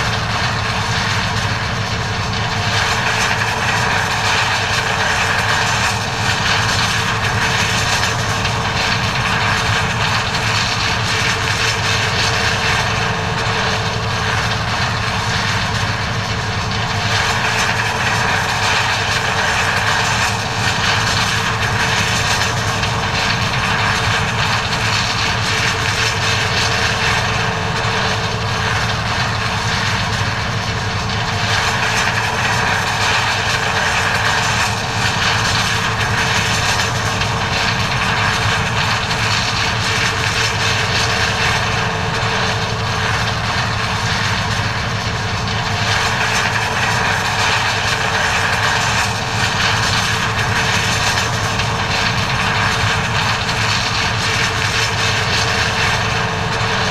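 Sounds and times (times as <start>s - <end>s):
combine harvester droning: 0.0s - 56.9s.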